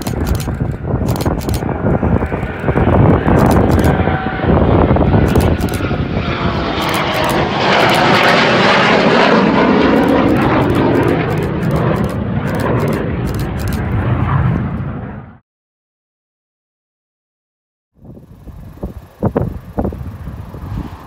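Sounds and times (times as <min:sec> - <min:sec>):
jet roar flying past: 0:00.0 - 0:15.4, 0:18.2 - 0:21.0.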